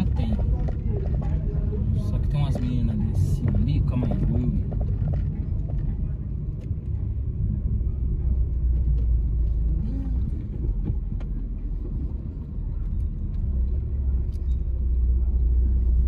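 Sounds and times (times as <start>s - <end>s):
car driving rumble from inside: 0.0s - 16.0s.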